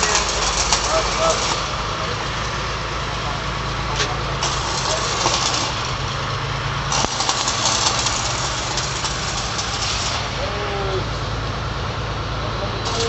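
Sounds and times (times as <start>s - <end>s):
crackling hiss of sparks: 0.0s - 13.0s
engine idling with low hum: 0.0s - 13.0s.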